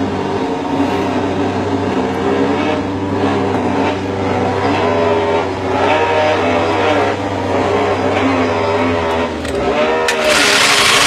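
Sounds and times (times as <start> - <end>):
mechanical hum with wavering tones: 0.0 - 11.0.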